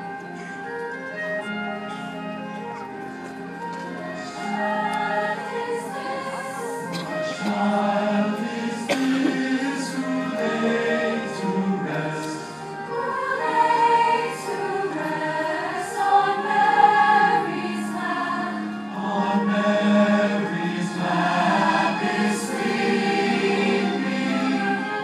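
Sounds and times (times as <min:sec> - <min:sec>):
massed choir singing: 0:04.0 - 0:25.0.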